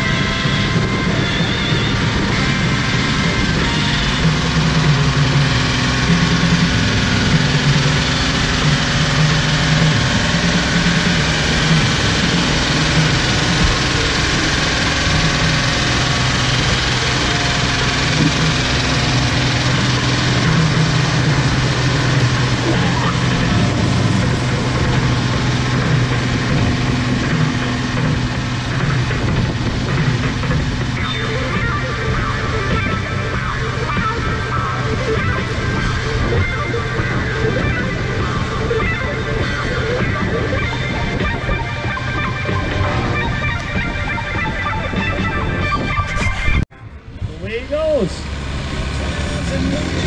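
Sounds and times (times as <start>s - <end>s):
tractor engine running under load: 0.0s - 50.0s.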